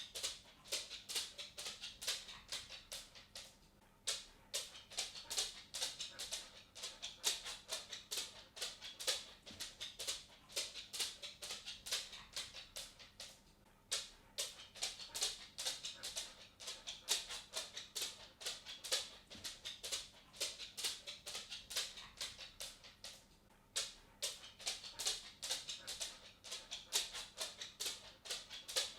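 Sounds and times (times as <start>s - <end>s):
cat footsteps clicking: 0.0s - 28.9s.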